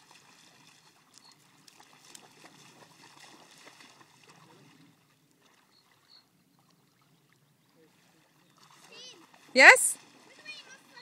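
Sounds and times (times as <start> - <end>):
lake water lapping: 0.0 - 11.0.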